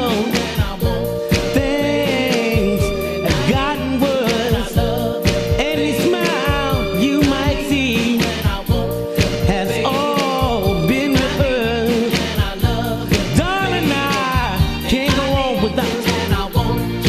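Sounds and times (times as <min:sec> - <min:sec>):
band with steady beat: 0:00.0 - 0:17.0
person singing: 0:00.0 - 0:17.0.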